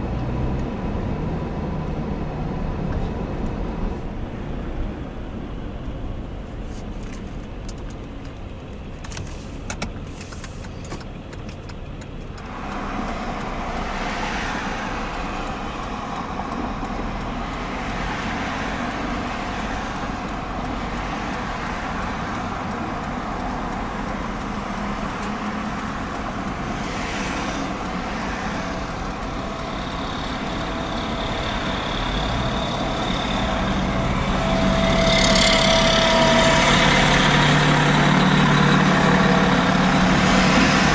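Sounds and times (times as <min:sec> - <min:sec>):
heavy engine: 0:00.0 - 0:40.9
highway traffic passing: 0:00.0 - 0:40.9.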